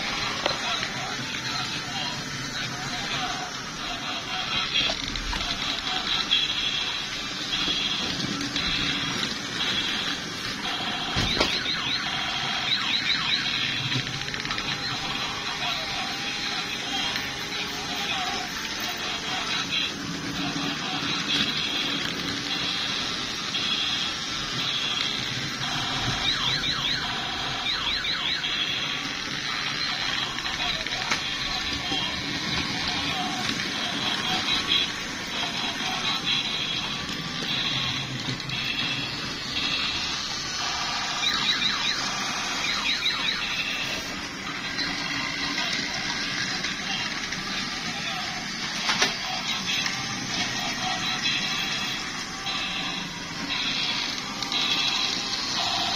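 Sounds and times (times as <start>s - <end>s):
toy high beeping tones: 0.0s - 55.9s.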